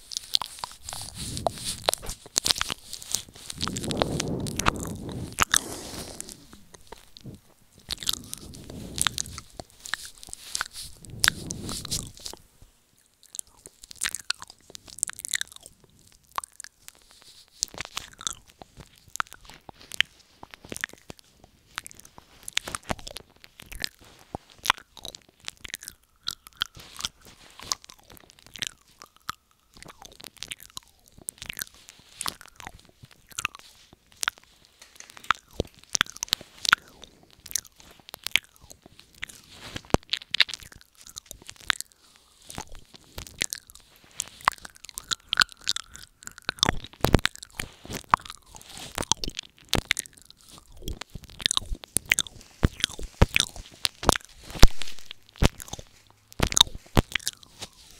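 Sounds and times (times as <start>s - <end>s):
wet mouth clicks and smacks: 0.0s - 12.4s, 13.2s - 57.9s.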